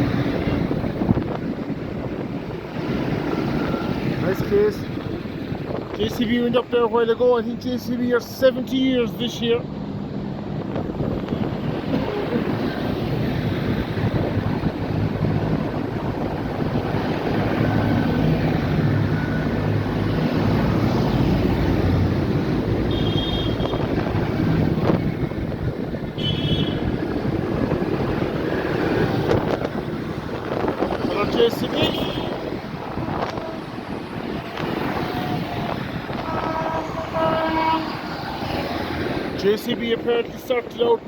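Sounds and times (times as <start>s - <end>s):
wind buffeting microphone: 0.0s - 7.1s, 9.6s - 40.4s
tractor engines driving past: 0.0s - 41.0s.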